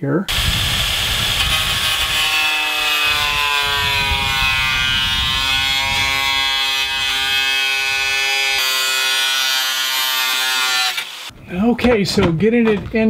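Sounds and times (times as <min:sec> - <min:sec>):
angle grinder cutting metal: 0:00.3 - 0:11.3.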